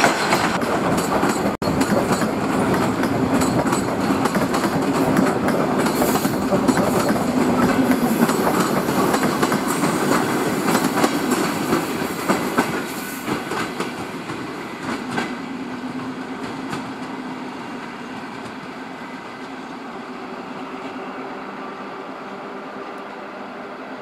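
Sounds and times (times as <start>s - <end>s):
train wheels clicking over rail joints: 0.0s - 19.8s
train rolling noise: 0.0s - 24.0s.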